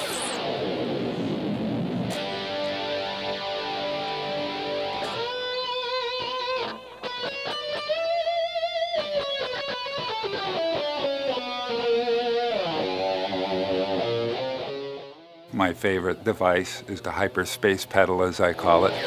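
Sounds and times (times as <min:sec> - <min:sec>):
electric guitar lead with vibrato: 0:00.0 - 0:15.5, 0:18.8 - 0:19.0.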